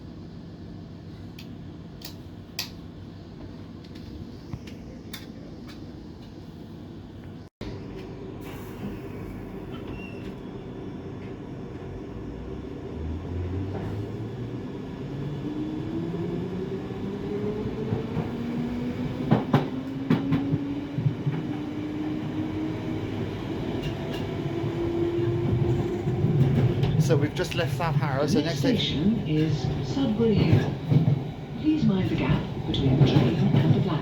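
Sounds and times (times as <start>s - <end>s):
train rumble: 0.2s - 34.0s.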